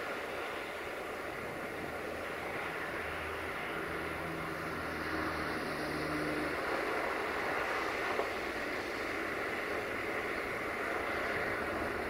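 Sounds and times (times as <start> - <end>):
constant rushing noise: 0.0 - 12.0
diesel locomotive engine hum: 0.0 - 12.0.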